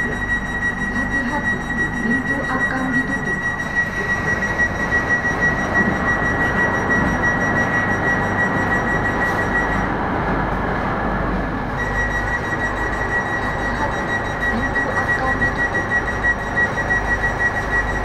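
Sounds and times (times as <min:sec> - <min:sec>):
thin high whine: 0:00.0 - 0:18.0
train running rumble: 0:00.0 - 0:18.0.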